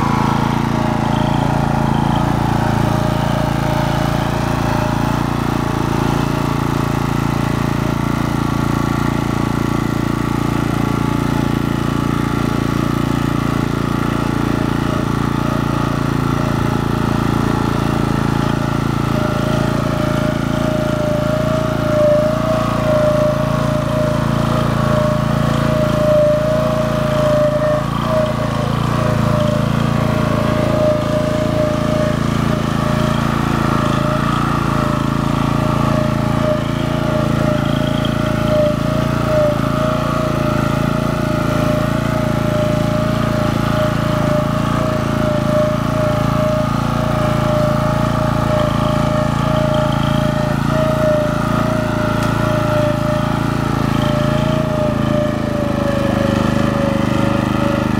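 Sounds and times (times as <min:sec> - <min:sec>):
tractor engine under load: 0:00.0 - 0:57.9.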